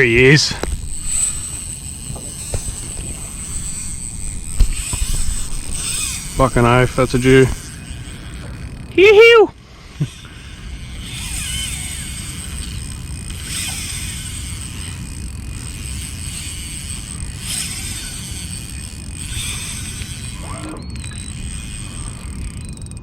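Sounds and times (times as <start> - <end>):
fishing reel drag whirring: 0.0 - 23.0
steady low rumble: 0.0 - 23.0.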